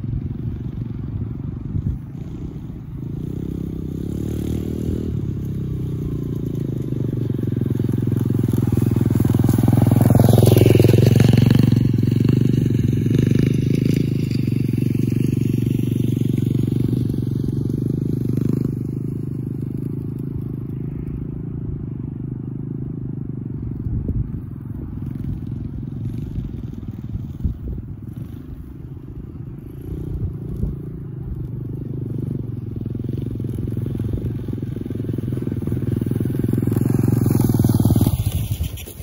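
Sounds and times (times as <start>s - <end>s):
motorbike engine running: 0.0s - 39.0s.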